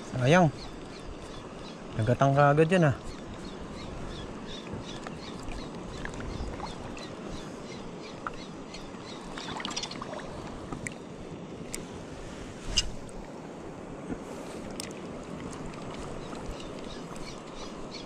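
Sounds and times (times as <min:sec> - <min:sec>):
sea water washing on shore: 0:00.0 - 0:18.0.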